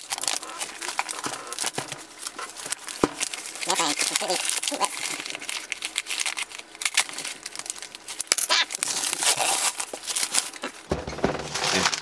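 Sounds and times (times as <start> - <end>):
paper tearing and crumpling: 0.0 - 12.0.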